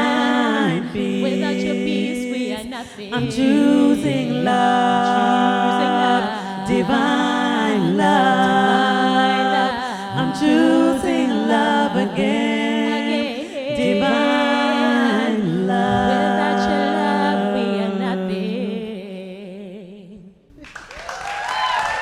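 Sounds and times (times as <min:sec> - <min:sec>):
women singing in harmony: 0:00.0 - 0:20.5.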